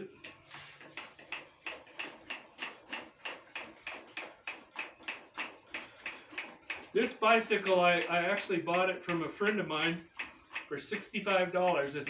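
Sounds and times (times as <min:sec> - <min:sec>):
hand bicycle pump strokes: 0:00.0 - 0:12.0.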